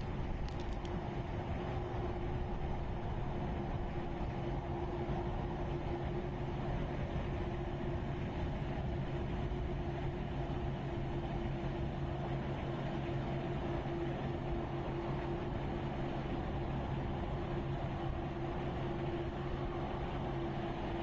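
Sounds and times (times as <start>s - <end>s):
steady engine hum: 0.0s - 21.0s.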